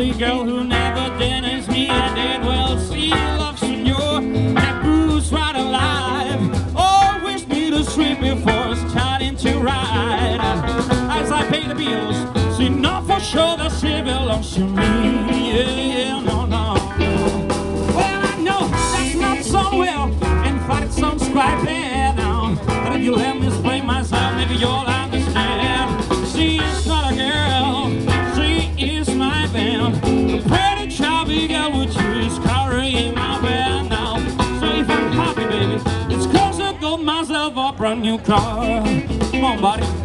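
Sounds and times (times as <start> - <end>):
blues band playing: 0.0 - 40.0.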